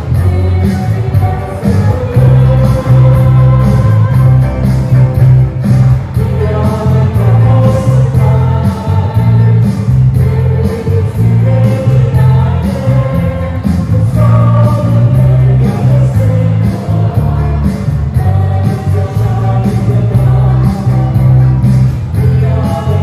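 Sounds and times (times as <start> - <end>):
acoustic guitar: 0.0 - 23.0
electric bass: 0.0 - 23.0
keyboard playing: 0.0 - 23.0
steady beat: 0.0 - 23.0
voices singing together: 0.0 - 23.0.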